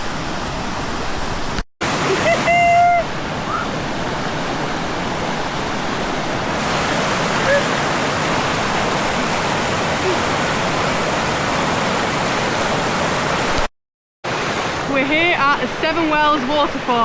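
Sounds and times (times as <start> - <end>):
waterfall rushing: 0.0 - 13.7.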